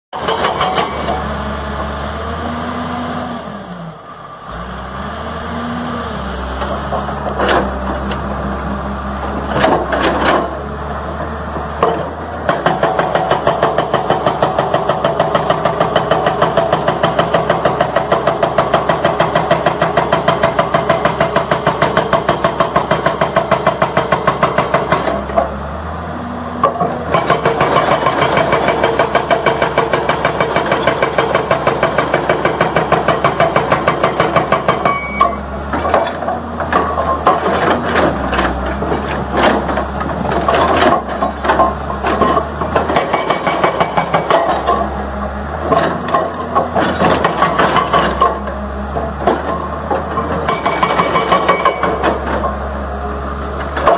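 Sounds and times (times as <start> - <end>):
diesel engine running: 0.2 - 53.9.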